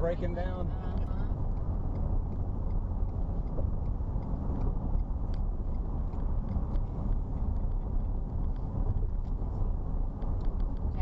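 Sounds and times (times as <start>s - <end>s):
car engine and road rumble: 0.0s - 11.0s
faint light ticks: 0.1s - 11.0s.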